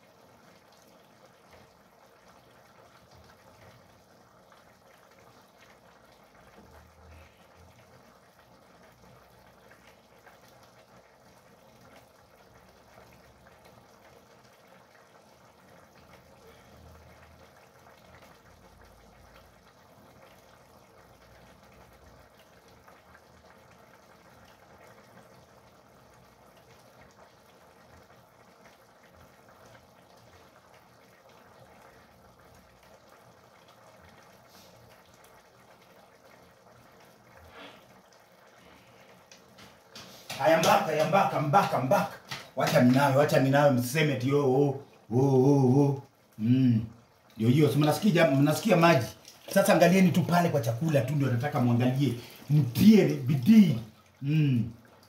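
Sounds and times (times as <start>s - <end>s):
pans simmering with bubbling hiss: 0.0s - 55.0s.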